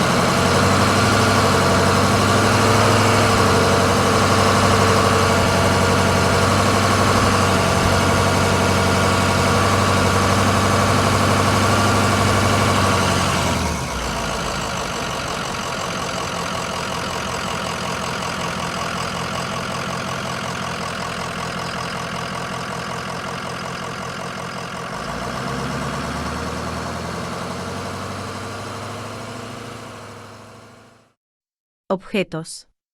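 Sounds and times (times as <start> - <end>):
engine running: 0.0 - 31.1.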